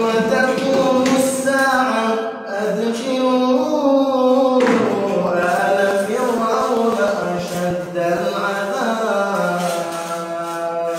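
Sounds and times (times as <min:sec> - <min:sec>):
person chanting melodically: 0:00.0 - 0:10.9.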